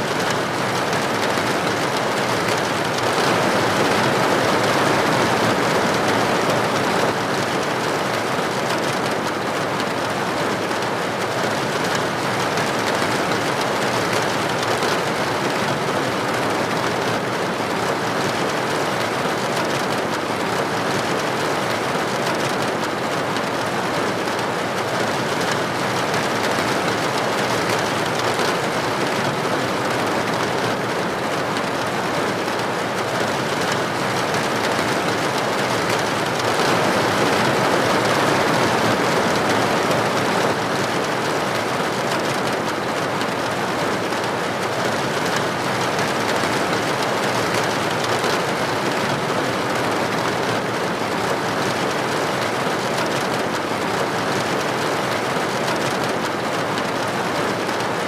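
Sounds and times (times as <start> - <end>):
rain falling: 0.1 - 58.0.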